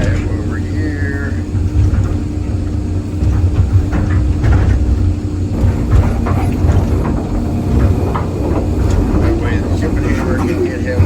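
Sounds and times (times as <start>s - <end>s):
excavator diesel engine: 0.0s - 11.0s.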